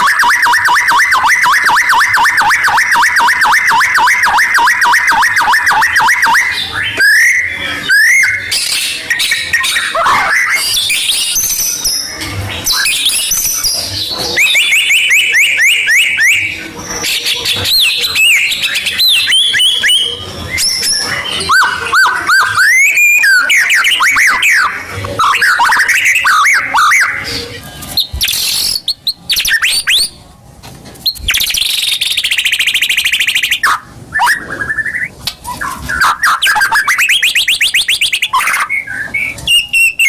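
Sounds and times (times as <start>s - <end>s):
bird singing varied song: 0.0s - 30.2s, 31.0s - 40.0s.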